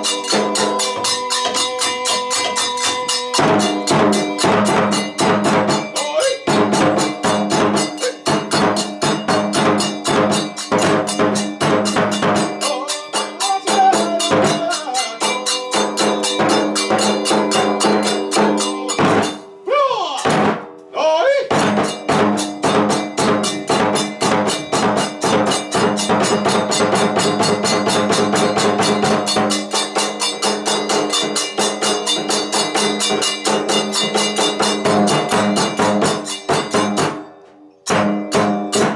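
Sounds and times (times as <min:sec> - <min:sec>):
fast steady drumming: 0:00.0 - 0:20.8, 0:21.4 - 0:38.9.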